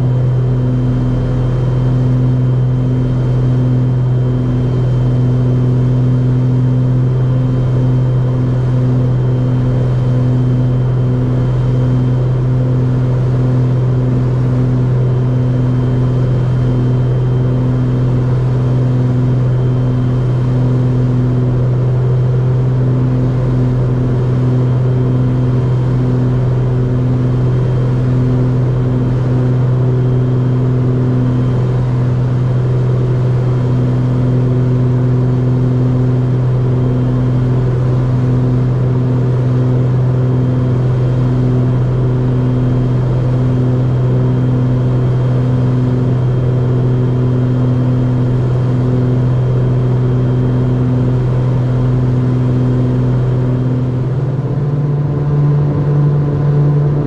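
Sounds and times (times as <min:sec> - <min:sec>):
twin piston engines droning in flight: 0:00.0 - 0:57.0.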